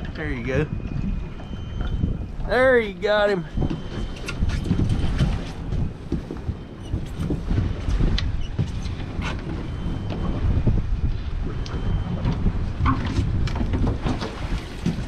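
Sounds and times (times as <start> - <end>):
water lapping against boat hull: 0.0 - 15.0
wind rumbling on microphone: 0.0 - 15.0.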